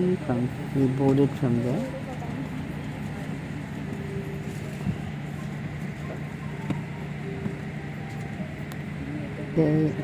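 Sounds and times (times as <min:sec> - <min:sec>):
airplane cabin hum: 0:00.0 - 0:10.0.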